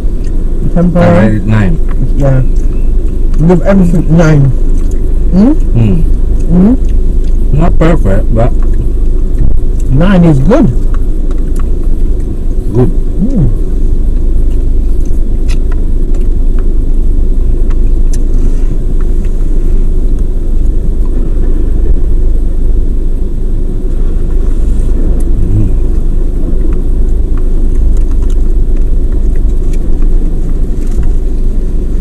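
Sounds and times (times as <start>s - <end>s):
car idling: 0.0s - 32.0s.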